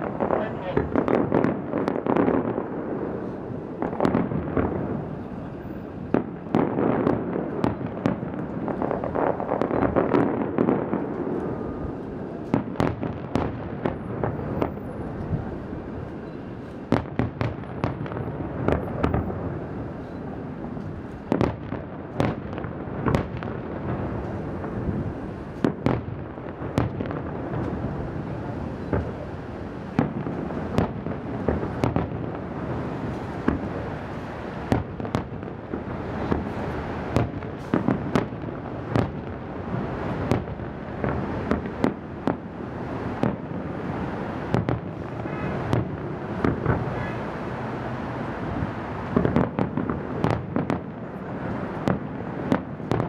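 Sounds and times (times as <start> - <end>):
fireworks booming and crackling: 0.0 - 53.0.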